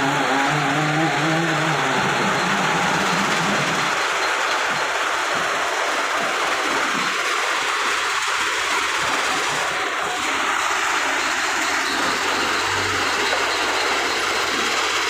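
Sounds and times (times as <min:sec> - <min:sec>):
faint diesel engine hum: 0:00.0 - 0:15.0
stone crusher rattling: 0:00.0 - 0:15.0.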